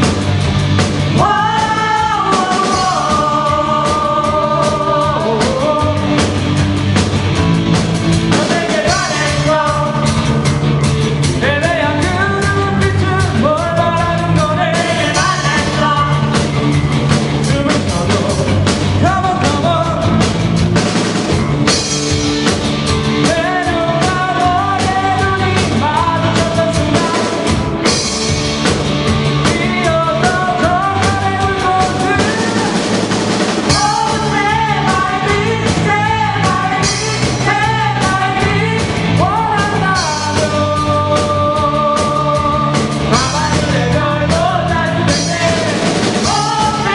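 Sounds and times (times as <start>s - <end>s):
lead singer: 0.0s - 46.9s
rock band playing live: 0.0s - 46.9s.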